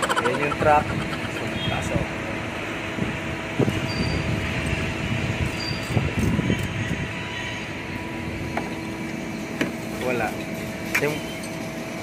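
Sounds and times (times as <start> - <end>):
truck engine and hydraulics: 0.0 - 12.0.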